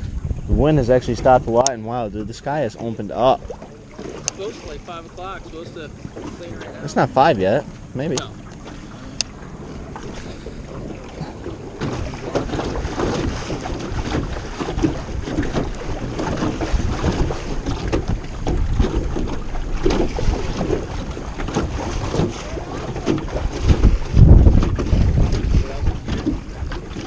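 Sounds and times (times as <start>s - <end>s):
waves slapping boat hull: 0.0s - 27.0s
wind buffeting microphone: 0.0s - 27.0s.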